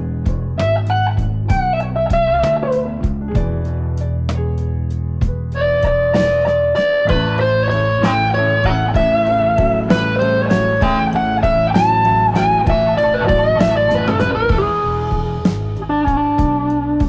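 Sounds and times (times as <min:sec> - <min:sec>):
bluesy electric guitar: 0:00.0 - 0:17.0
steady drum beat: 0:00.0 - 0:17.0.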